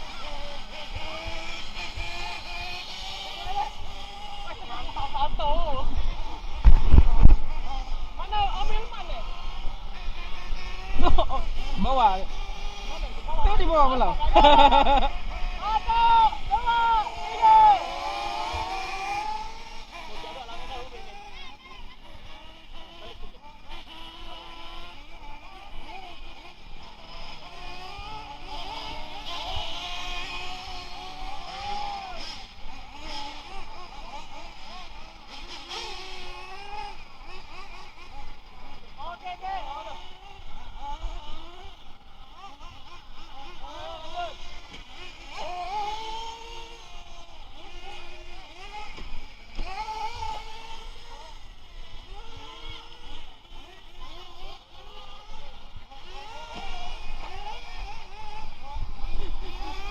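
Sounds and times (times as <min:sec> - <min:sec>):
electric motor whining: 0:00.0 - 0:59.9.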